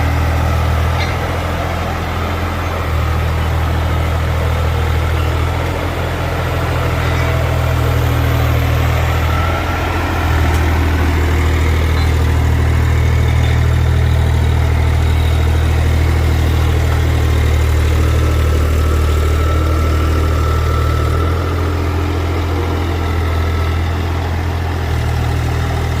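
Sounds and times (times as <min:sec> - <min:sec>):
engine idling with deep hum: 0:00.0 - 0:26.0.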